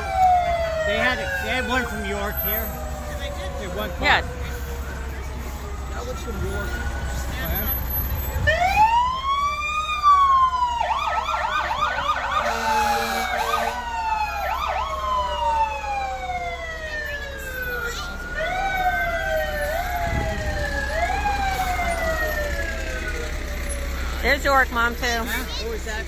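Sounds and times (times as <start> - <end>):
siren warbling yelp: 0.0 - 25.8
fire engine sirens wailing: 0.0 - 26.0.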